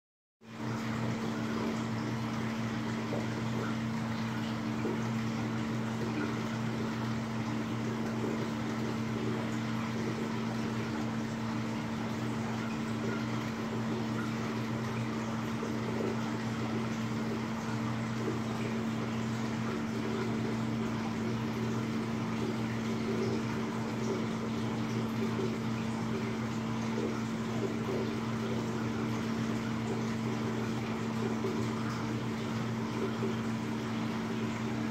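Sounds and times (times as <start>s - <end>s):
aquarium pumps humming: 0.4s - 34.9s.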